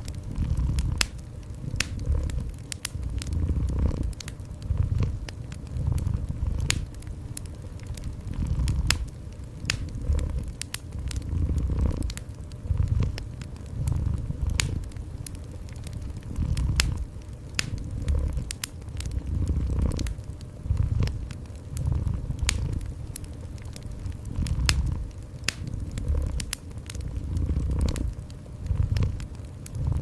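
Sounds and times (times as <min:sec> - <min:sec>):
fire crackling and popping: 0:00.0 - 0:30.0
cat purring: 0:00.1 - 0:07.0, 0:07.7 - 0:15.0, 0:15.8 - 0:30.0.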